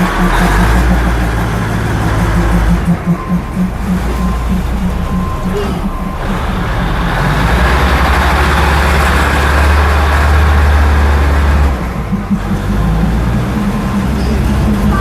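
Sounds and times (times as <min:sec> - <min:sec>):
diesel train engine rumbling: 0:00.0 - 0:15.0.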